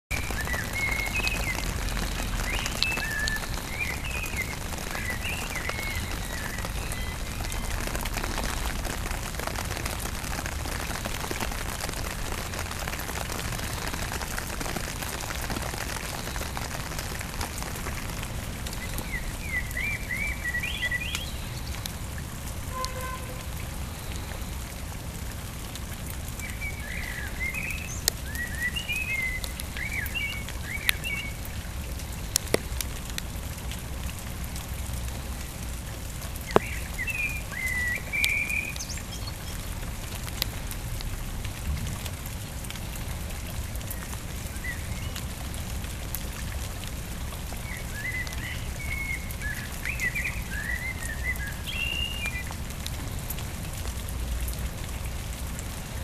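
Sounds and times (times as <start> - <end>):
raindrops striking close by: 0.1 - 56.0
steady rain falling: 0.1 - 56.0.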